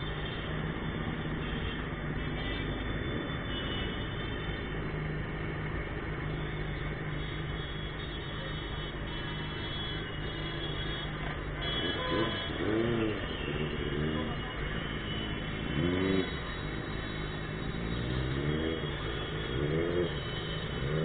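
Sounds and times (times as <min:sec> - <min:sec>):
road and traffic noise: 0:00.0 - 0:21.0.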